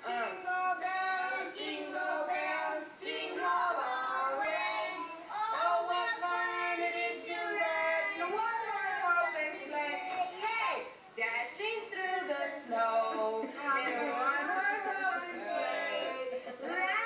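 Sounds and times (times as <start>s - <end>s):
children and women singing: 0.0s - 17.0s.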